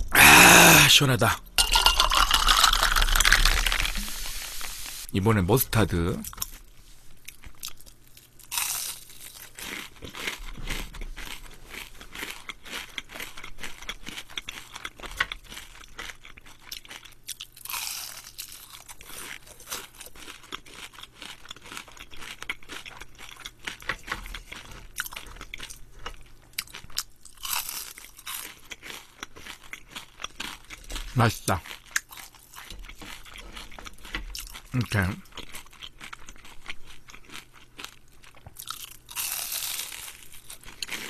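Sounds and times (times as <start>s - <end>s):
crunching and chewing: 6.1s - 41.0s.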